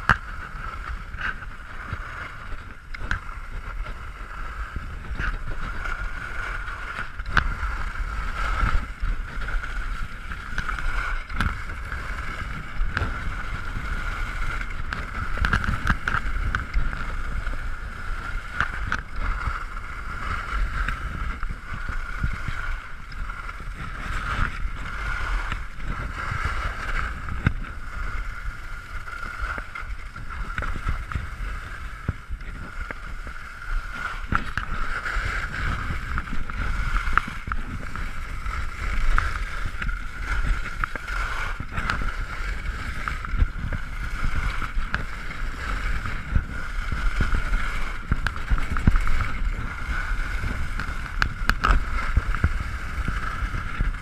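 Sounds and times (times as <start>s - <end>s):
skis scraping on packed snow: 0.0s - 54.0s
wind rumbling on microphone: 0.0s - 54.0s.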